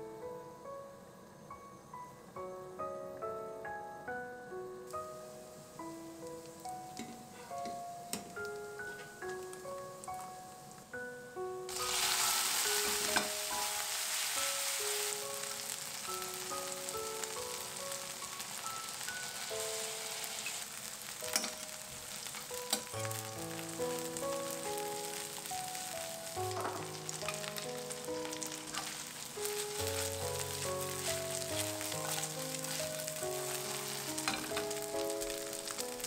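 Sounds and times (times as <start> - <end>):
light music with plucked notes: 2.4 - 36.0
food sizzling in a pan: 5.0 - 10.7, 11.7 - 36.0.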